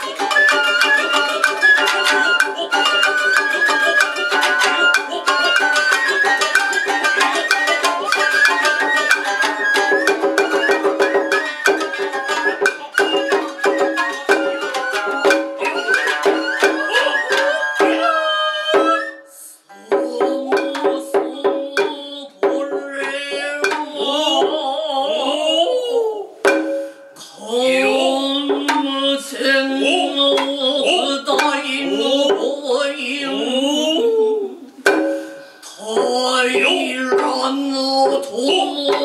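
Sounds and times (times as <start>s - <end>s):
drum strikes: 0.0s - 19.0s, 19.9s - 24.7s, 26.4s - 32.8s, 34.8s - 39.0s
bamboo flute sliding notes: 0.0s - 21.0s, 25.6s - 32.8s, 33.4s - 37.5s
shamisen plucking: 0.0s - 39.0s.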